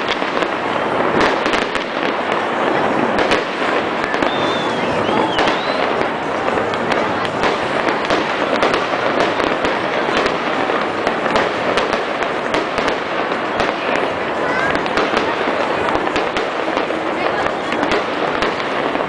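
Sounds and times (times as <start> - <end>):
firework whistles: 0.0 - 19.0
fireworks bangs: 0.0 - 19.0
fireworks crackling: 0.0 - 19.0.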